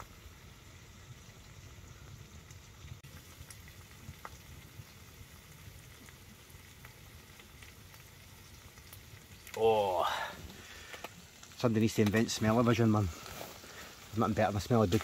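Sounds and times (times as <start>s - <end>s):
bacon and sausages sizzling: 0.0s - 15.0s.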